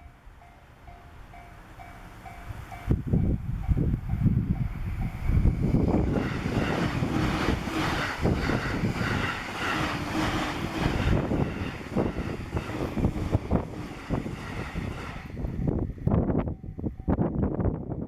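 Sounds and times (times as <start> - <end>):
train running past: 0.0 - 17.8
wind buffeting microphone: 2.2 - 18.0.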